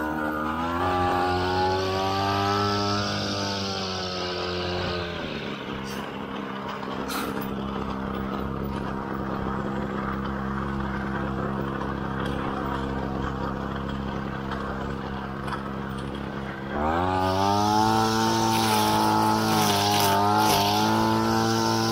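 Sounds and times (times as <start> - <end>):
brush cutter engine idling: 0.0 - 21.9.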